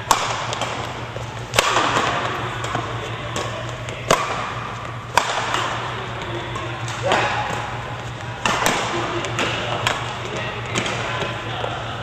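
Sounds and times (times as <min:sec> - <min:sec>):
badminton rackets hitting shuttlecock: 0:00.0 - 0:11.1
steady low hum: 0:00.0 - 0:12.0.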